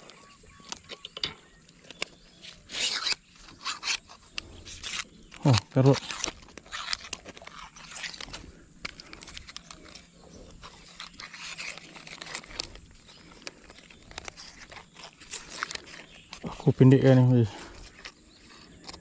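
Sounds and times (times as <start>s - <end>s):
hands rustling fishing line: 1.7s - 19.0s.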